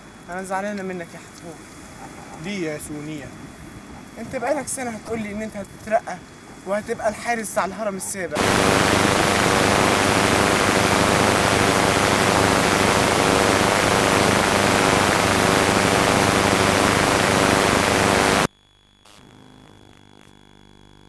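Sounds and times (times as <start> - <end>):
loud static hiss: 0.0 - 21.0.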